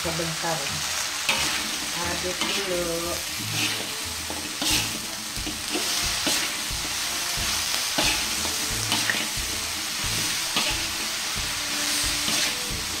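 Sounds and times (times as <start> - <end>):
food sizzling in wok: 0.0 - 13.0
spatula scraping and knocking pan: 1.3 - 11.2, 12.0 - 13.0.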